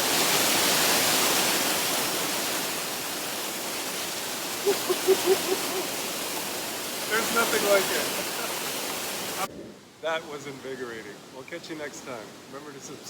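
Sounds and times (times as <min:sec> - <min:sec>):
waterfall rushing: 0:00.0 - 0:10.7.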